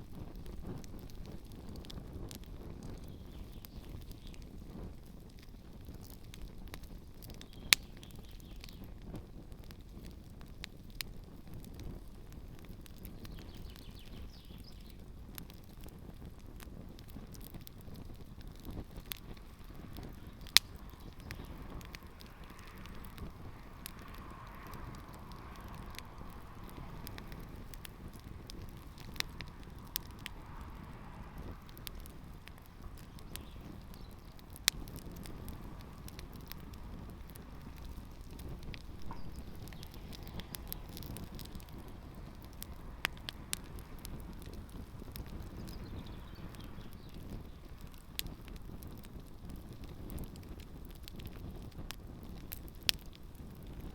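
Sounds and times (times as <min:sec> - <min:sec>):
campfire crackling and popping: 0:00.0 - 0:53.9
fire low rush: 0:00.0 - 0:53.9.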